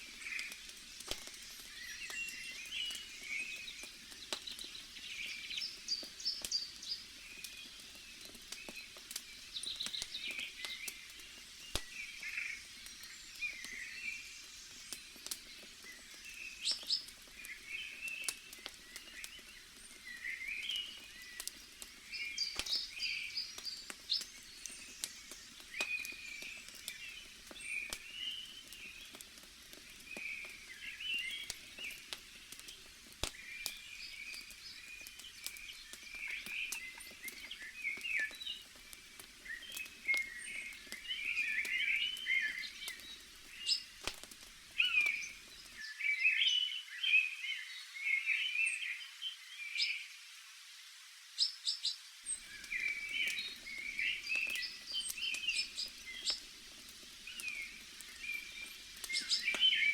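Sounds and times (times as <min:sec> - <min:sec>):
campfire crackling and popping: 0:00.0 - 0:45.9, 0:52.1 - 0:59.9
birds chirping: 0:00.0 - 0:50.0, 0:51.4 - 0:59.9.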